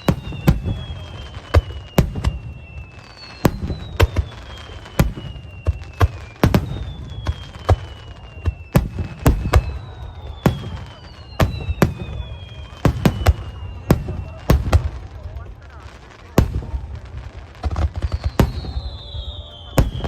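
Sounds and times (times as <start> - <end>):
fireworks bangs: 0.0 - 20.0
fireworks whistles gliding down: 0.0 - 20.0.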